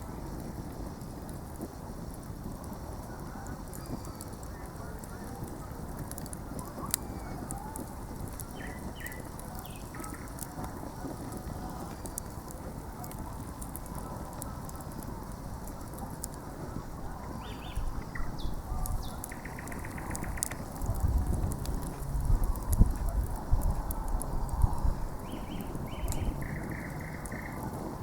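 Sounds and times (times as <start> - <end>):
campfire crackling: 0.0 - 28.0
sharp fire pops: 0.0 - 28.0.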